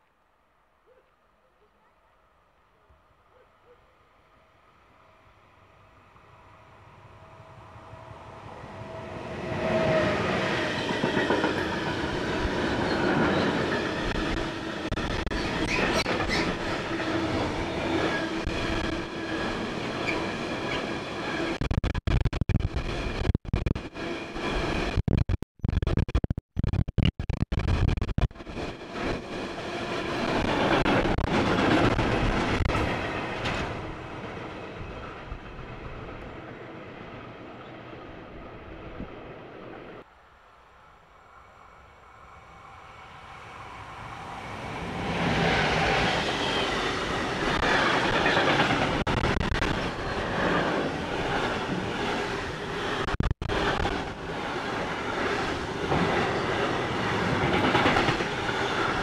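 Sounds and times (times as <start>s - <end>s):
electric locomotive hum: 4.3s - 21.6s, 28.4s - 59.0s.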